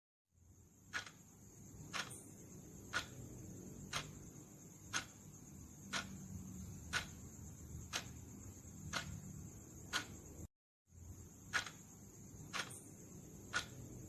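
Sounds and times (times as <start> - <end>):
timer ticking: 0.8 - 10.5, 11.4 - 14.0.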